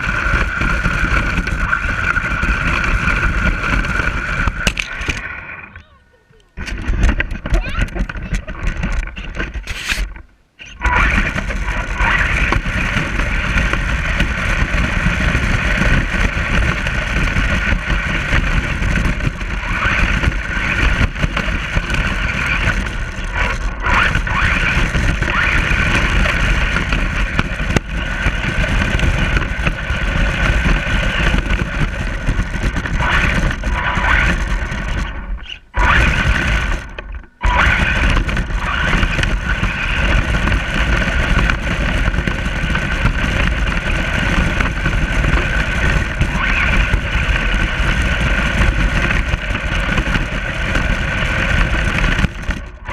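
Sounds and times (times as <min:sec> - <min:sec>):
steady low rumble: 0:00.0 - 0:52.9
toy truck motor running: 0:00.0 - 0:52.9.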